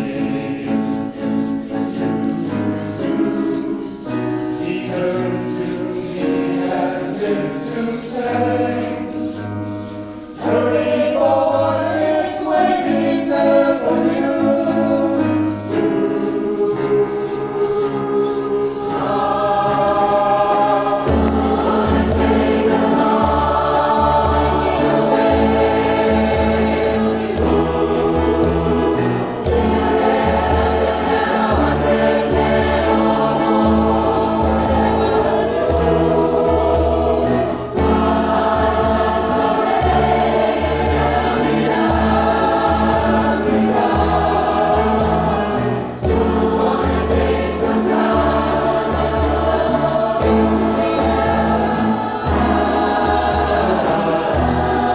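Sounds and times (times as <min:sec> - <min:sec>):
choir singing in parts: 0:00.0 - 0:54.9
steady percussion beat: 0:07.7 - 0:54.9.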